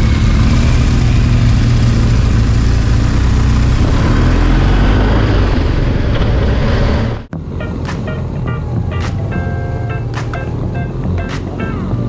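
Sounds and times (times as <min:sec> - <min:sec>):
motorcycle engine pulling away: 0:00.0 - 0:12.0.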